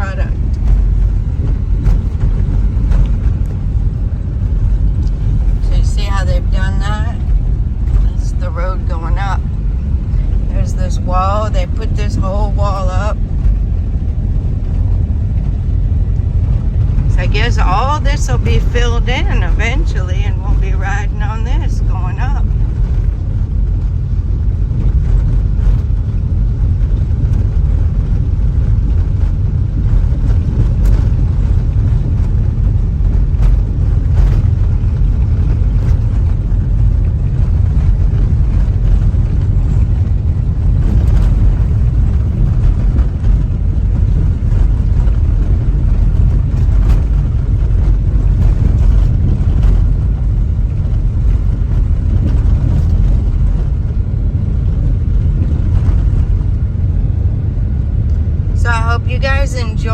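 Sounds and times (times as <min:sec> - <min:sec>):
car driving on road: 0:00.0 - 0:59.9.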